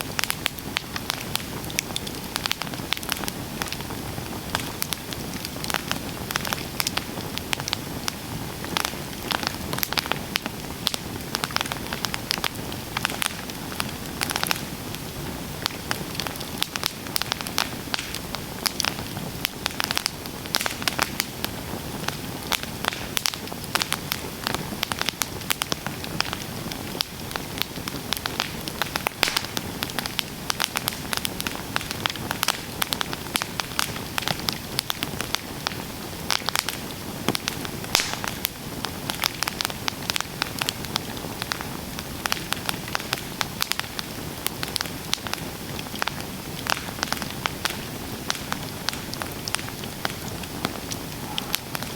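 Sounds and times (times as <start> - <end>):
campfire hiss: 0.0 - 51.9
wood crackling and popping: 0.1 - 51.9.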